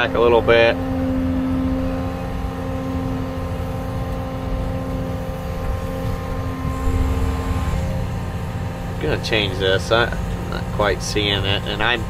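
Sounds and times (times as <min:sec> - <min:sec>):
diesel engine rumbling with whine: 0:00.0 - 0:12.0.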